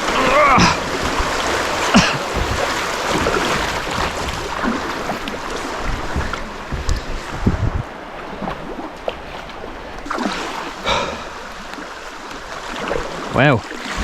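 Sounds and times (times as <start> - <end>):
river water rushing: 0.0 - 14.0
sharp water splashes: 0.0 - 14.0.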